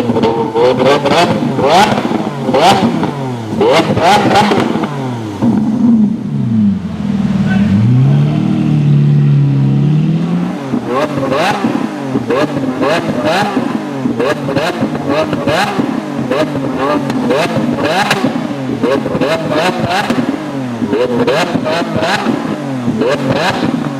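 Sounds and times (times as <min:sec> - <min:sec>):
sports car engine revving: 0:00.0 - 0:23.9.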